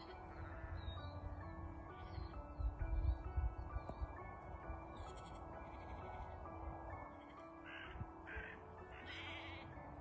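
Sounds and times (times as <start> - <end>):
slow background melody: 0.0 - 10.0.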